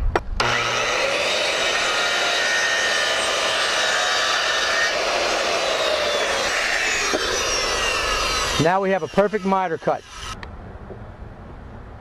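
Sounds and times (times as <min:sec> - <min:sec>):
circular saw cutting wood: 0:00.4 - 0:10.4.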